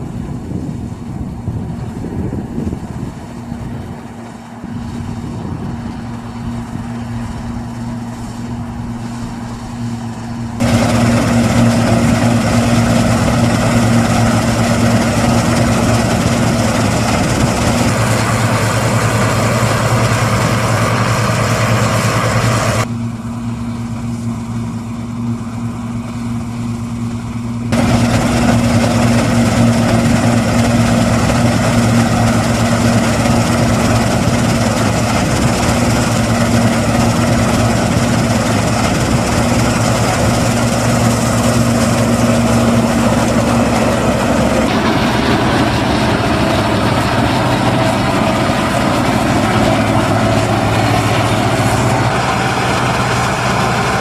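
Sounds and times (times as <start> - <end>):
machinery rushing noise: 0.0 - 23.0, 27.6 - 54.0
combine harvester engine drone: 0.0 - 54.0.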